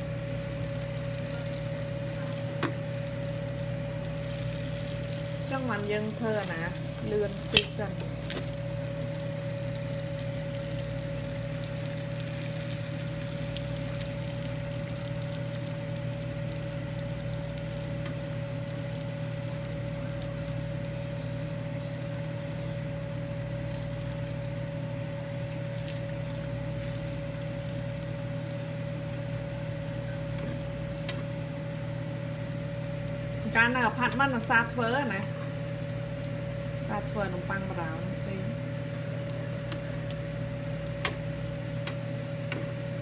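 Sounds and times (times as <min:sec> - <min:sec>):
low hum: 0:00.0 - 0:43.0
oil sizzling and crackling: 0:00.0 - 0:43.0.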